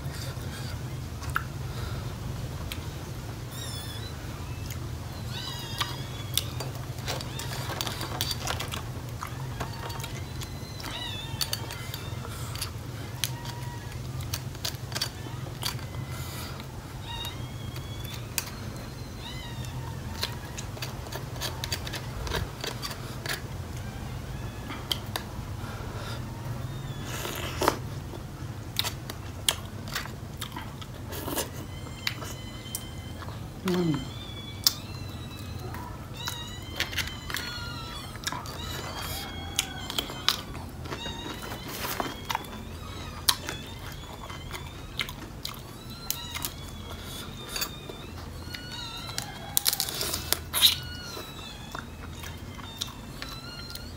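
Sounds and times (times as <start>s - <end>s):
high-pitched animal calls: 3.4s - 27.8s, 30.6s - 53.9s.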